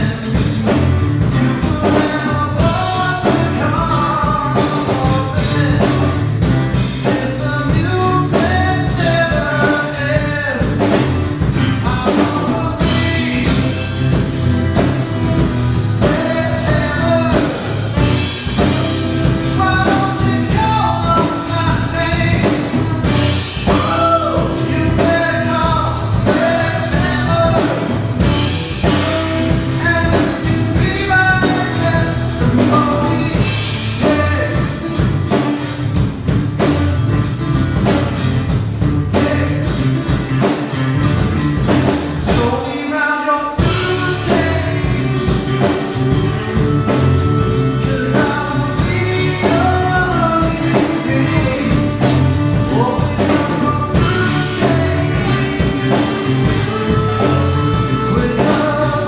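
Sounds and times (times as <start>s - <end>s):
person singing: 0.0s - 36.0s, 38.8s - 59.0s
bass guitar: 0.0s - 42.9s, 43.5s - 59.0s
drum kit: 0.0s - 59.0s
electric guitar: 0.0s - 59.0s.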